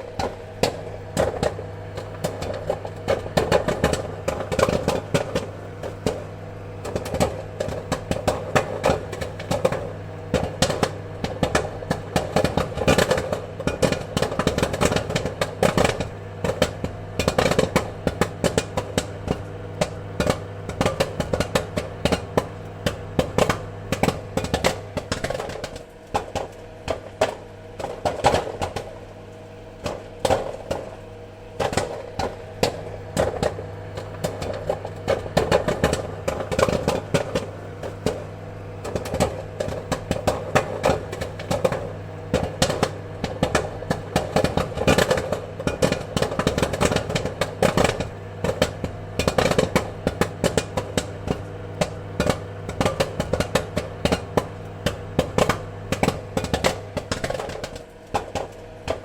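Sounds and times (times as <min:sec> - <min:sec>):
popcorn kernels popping: 0:00.0 - 0:59.0
steady low hum: 0:00.0 - 0:59.0.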